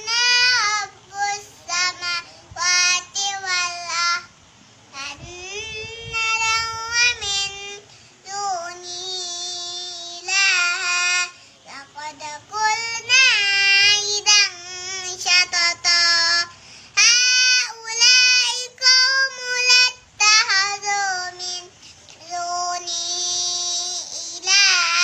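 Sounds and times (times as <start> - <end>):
child chanting: 0.0 - 25.0.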